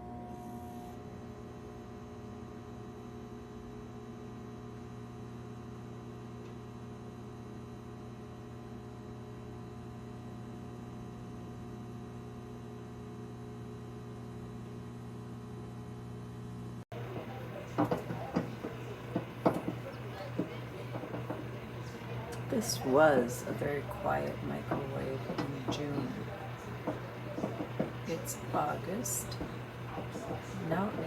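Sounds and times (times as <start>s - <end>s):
microwave oven humming: 0.0s - 31.0s.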